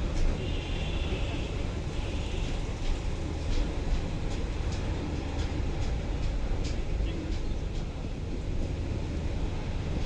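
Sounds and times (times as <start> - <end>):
train rumbling over bridge: 0.0 - 10.0.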